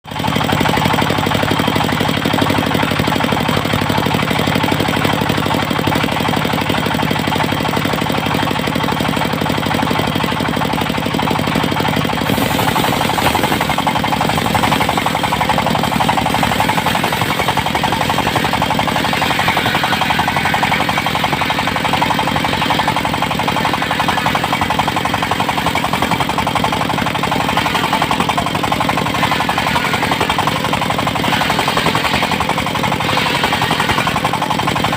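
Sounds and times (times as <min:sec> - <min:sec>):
sawmill running with knocking beat: 0:00.0 - 0:34.9.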